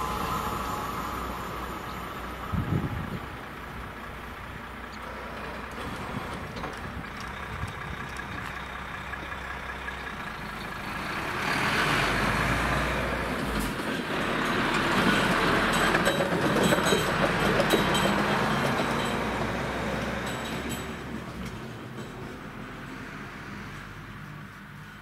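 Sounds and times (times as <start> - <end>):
truck engine: 0.0 - 25.0
truck tyres on crossing: 0.0 - 25.0.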